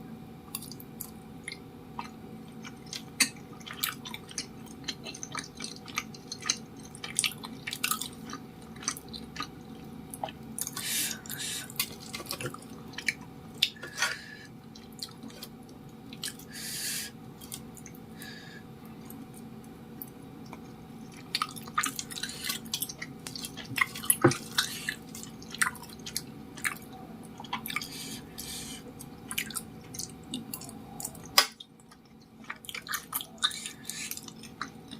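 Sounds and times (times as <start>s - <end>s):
steady low hum: 0.0s - 34.9s
wet chewing mouth sounds: 0.5s - 13.8s, 19.0s - 34.9s.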